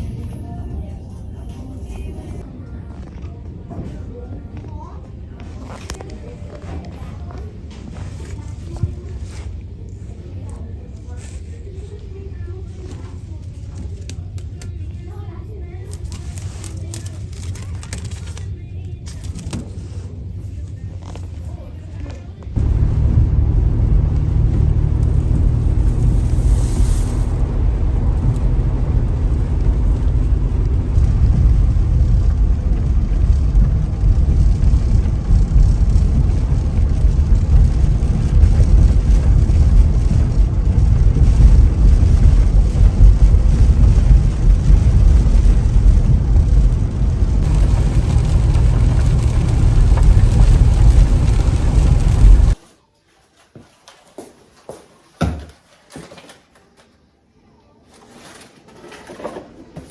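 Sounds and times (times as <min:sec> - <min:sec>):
low rumble with hiss: 0:00.0 - 0:52.6.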